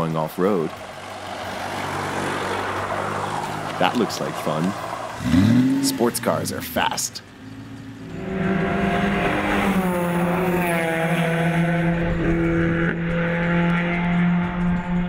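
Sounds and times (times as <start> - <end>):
sports car engine running: 0.3 - 15.0.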